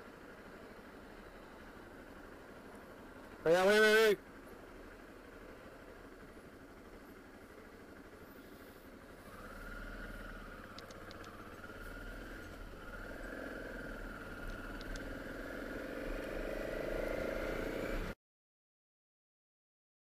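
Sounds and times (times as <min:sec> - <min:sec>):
motorcycle engine accelerating: 0:00.0 - 0:18.2.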